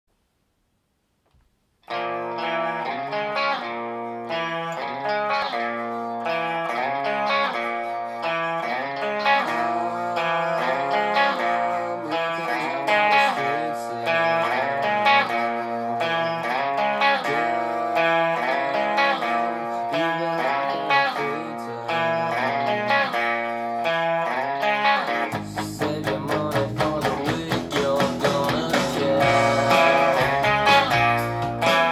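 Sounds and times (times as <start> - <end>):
electric guitar riff: 1.8 - 31.9.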